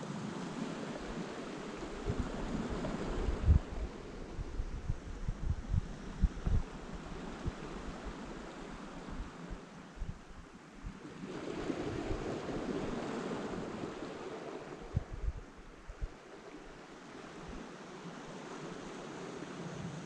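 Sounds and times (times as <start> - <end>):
wind buffets on microphone: 0.2 - 17.7.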